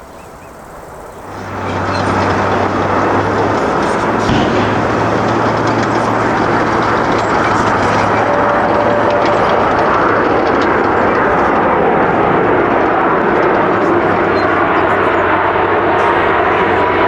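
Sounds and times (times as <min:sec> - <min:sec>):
jet engines roaring: 0:01.2 - 0:17.0.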